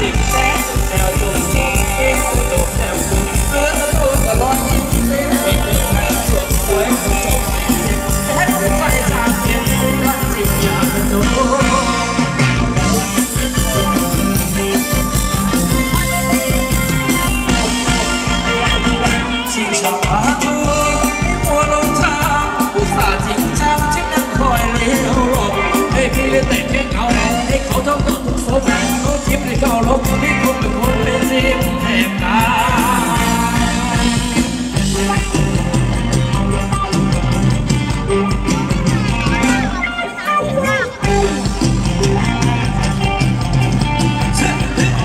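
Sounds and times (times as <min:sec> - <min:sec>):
band playing upbeat dance music: 0:00.0 - 0:45.0
steady drum beat: 0:00.0 - 0:45.0.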